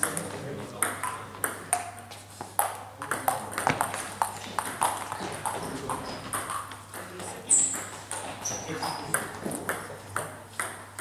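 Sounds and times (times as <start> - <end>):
table tennis balls clicking: 0.0 - 11.0.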